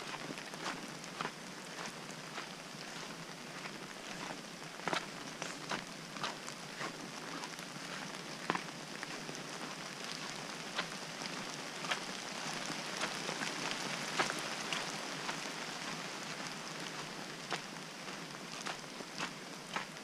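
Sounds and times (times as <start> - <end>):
rain hiss: 0.0 - 20.0.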